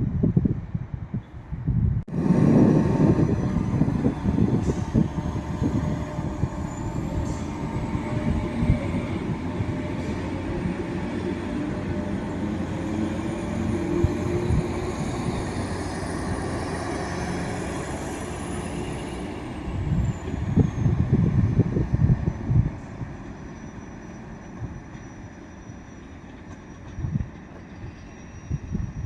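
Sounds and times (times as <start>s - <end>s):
diesel train rumbling: 1.9s - 29.0s.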